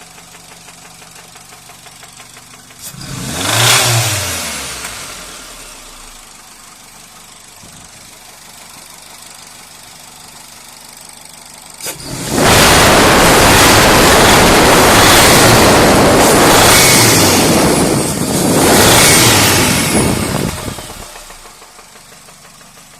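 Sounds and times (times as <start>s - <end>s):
car engine idling: 0.0s - 22.9s
loud steady engine noise: 2.6s - 22.9s.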